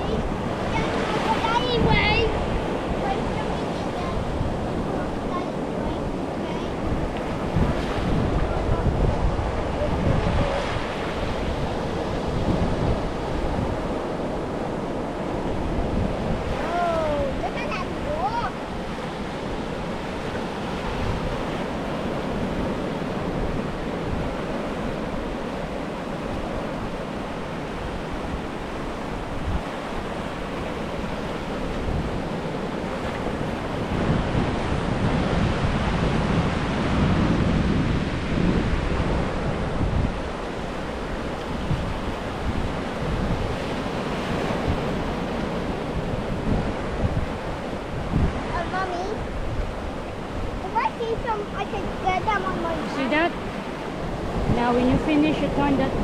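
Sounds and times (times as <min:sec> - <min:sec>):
ocean surf washing on beach: 0:00.0 - 0:56.0
wind buffeting microphone: 0:00.0 - 0:56.0.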